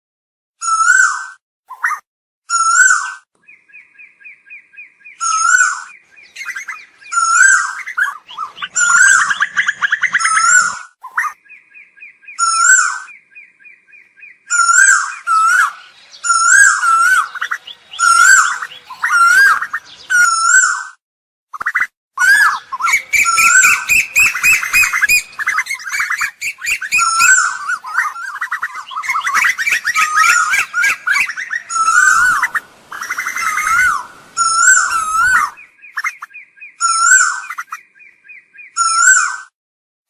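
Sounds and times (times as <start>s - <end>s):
bird whistled calls: 0.6s - 21.0s, 21.6s - 39.5s
bird trilled chatters: 4.5s - 20.8s, 21.6s - 38.2s.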